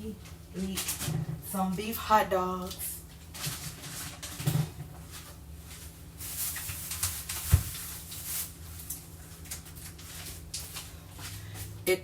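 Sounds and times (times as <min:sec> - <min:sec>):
plastic packaging crinkling: 0:00.0 - 0:01.9, 0:02.5 - 0:11.8.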